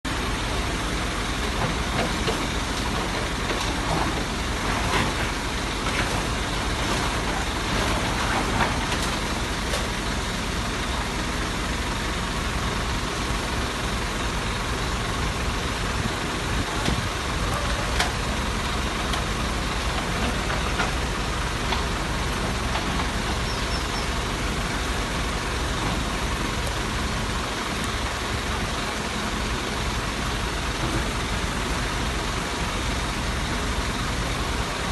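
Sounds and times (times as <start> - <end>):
large engine running: 0.0 - 34.9.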